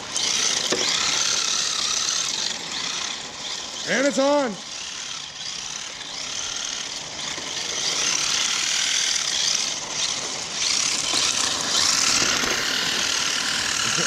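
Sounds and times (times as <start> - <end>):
radio-controlled car gear whine: 0.0 - 14.0.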